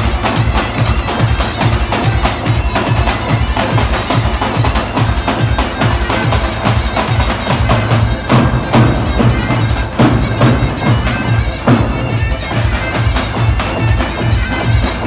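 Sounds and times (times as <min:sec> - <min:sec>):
bagpipe-like reed wind instrument: 0:00.0 - 0:15.0
steady drum beat: 0:00.0 - 0:15.0.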